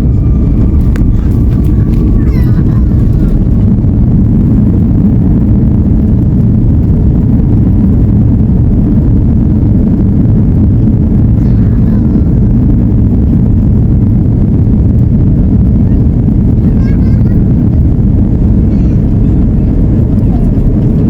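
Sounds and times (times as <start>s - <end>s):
airflow noise: 0.0s - 21.0s
jet engines: 0.0s - 21.0s.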